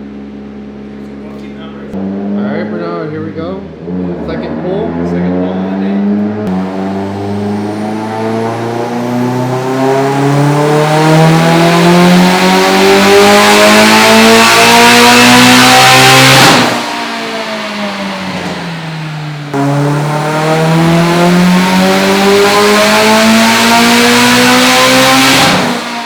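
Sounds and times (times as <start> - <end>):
car engine revving on dyno: 1.9 - 26.0.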